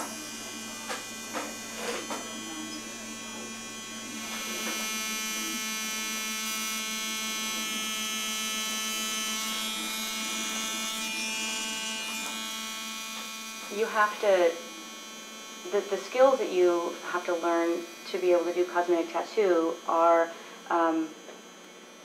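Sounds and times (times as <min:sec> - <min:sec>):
tattoo machine buzzing: 0:00.0 - 0:22.0.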